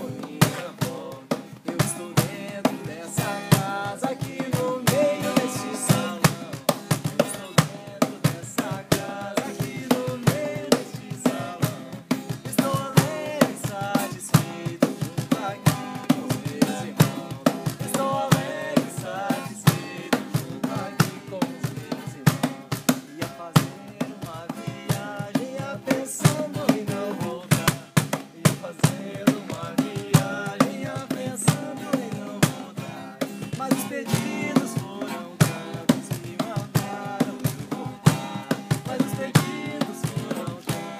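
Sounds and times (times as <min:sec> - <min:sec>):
chant melody sung: 0:00.0 - 0:22.4, 0:23.0 - 0:40.9
steady drum beat: 0:00.0 - 0:40.9.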